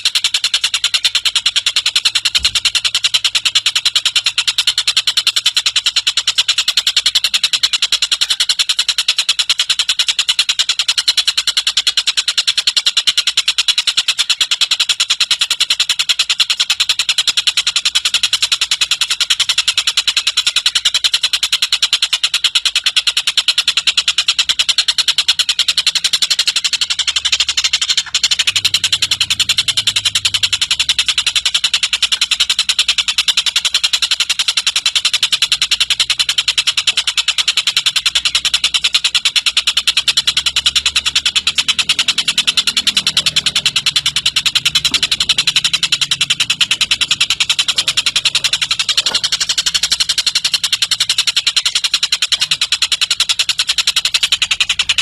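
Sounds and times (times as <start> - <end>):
bird harsh chattering call: 0.0 - 55.0.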